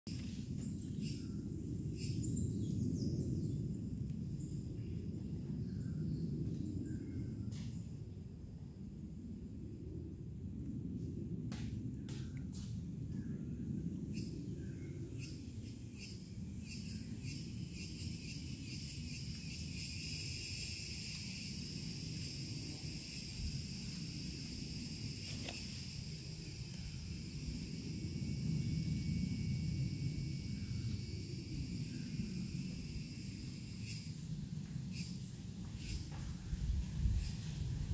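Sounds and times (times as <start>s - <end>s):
insects chorus: 0.1s - 10.4s, 11.5s - 37.9s
constant low rumble: 0.1s - 37.9s.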